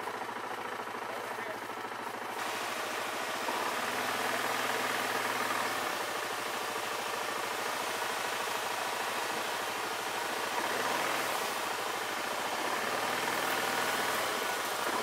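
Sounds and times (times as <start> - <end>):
atv engine under throttle: 0.0 - 15.0.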